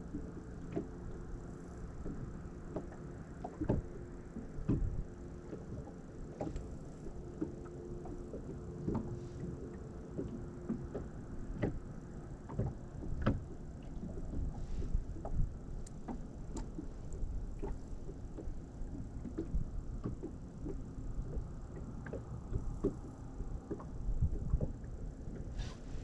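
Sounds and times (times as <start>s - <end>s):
faint steady hum: 0.0s - 26.0s
water lapping against hull: 0.0s - 26.0s.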